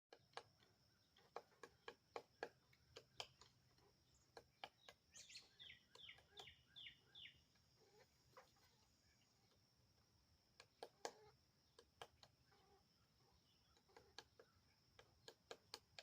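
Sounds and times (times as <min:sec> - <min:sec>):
woodpecker tapping: 0:00.1 - 0:08.6, 0:09.4 - 0:16.0
woodpecker calls: 0:00.1 - 0:16.0.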